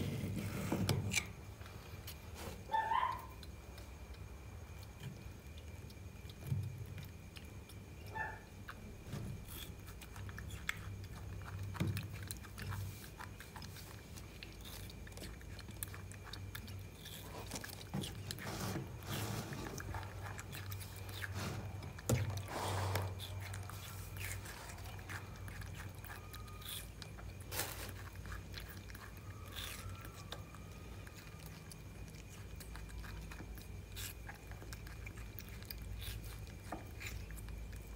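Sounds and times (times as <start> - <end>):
monkey chewing watermelon: 0.0 - 37.9.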